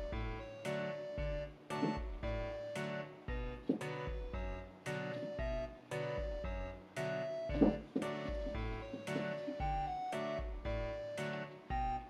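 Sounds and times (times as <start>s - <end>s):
light plucked instrumental music: 0.0s - 12.0s.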